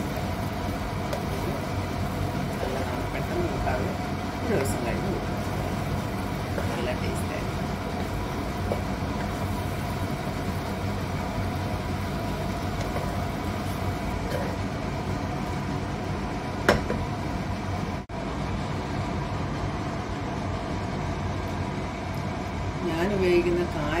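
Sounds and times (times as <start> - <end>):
kitchen exhaust fan humming: 0.0 - 24.0.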